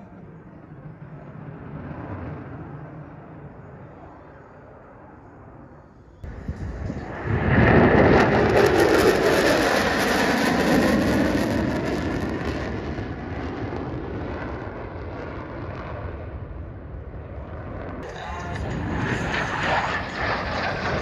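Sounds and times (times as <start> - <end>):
jet aircraft flying past: 0.0 - 21.0.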